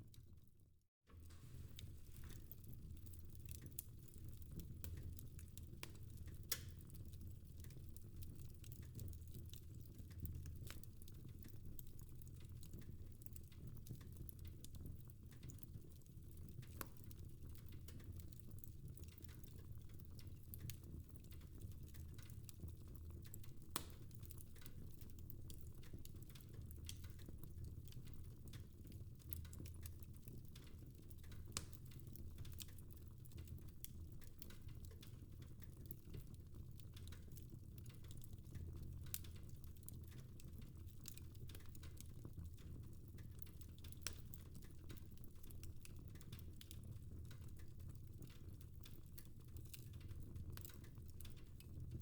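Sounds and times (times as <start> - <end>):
fireplace fire crackling: 1.1 - 52.0.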